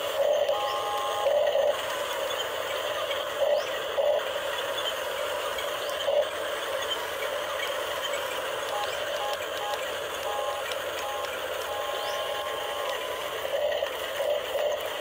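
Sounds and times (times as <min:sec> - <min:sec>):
toy excavator motors whirring: 0:00.0 - 0:15.0.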